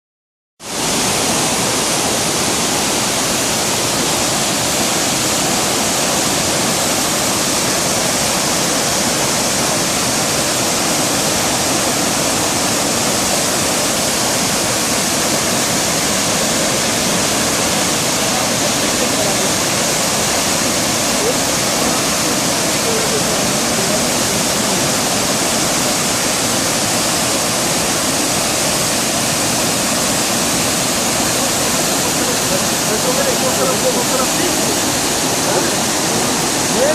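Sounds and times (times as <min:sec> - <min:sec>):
waterfall rushing: 0:00.6 - 0:36.9.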